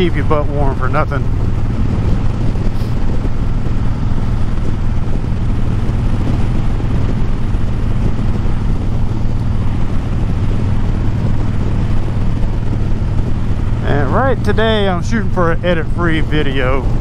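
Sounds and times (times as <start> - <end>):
motorcycle engine cruising: 0.0 - 17.0
wind noise: 0.0 - 17.0.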